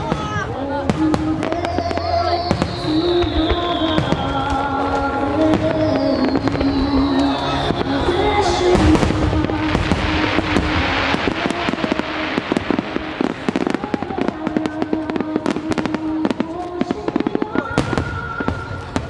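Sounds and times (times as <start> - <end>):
fireworks bursting: 0.0 - 19.0
song over loudspeakers: 0.0 - 19.0.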